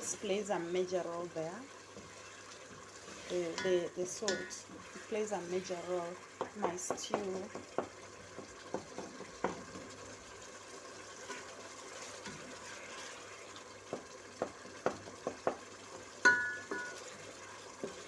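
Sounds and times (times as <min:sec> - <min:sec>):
tomatoes sizzling in a pot: 0:00.0 - 0:18.0.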